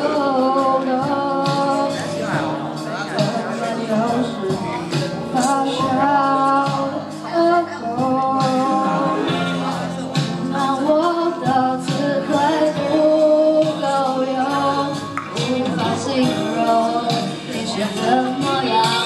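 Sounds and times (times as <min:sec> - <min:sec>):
music backing track: 0:00.0 - 0:19.0
woman singing into microphone: 0:00.0 - 0:19.0.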